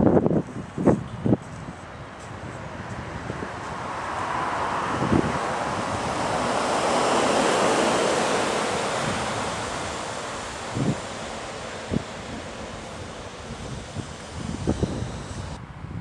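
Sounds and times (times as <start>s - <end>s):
tyres hissing on wet road: 0.7s - 15.6s.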